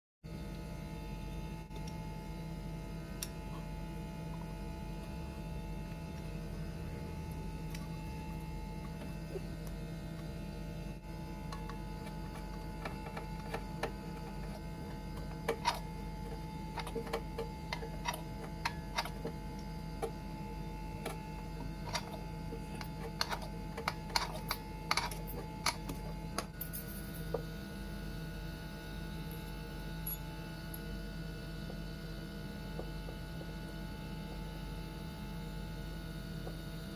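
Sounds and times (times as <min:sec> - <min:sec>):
electrical hum: 0:00.3 - 0:36.9.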